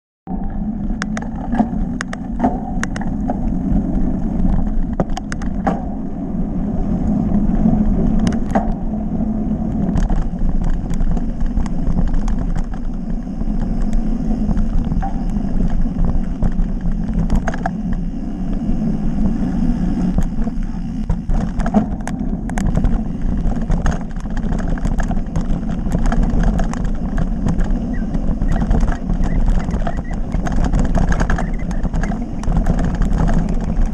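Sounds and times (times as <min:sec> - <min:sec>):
tyres rumbling over dirt trail: 0:00.3 - 0:33.9
wind buffeting microphone: 0:00.3 - 0:33.9
bike clicks and rattles: 0:00.4 - 0:33.9.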